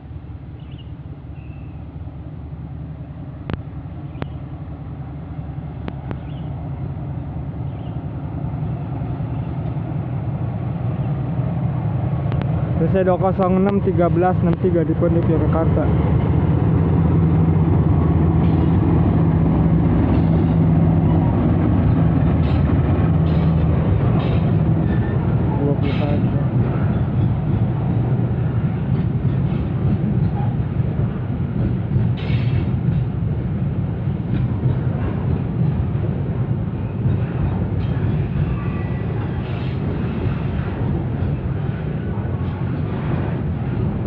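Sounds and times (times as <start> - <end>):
diesel locomotive engine drone: 0.0 - 44.0
train rumble: 0.0 - 44.0.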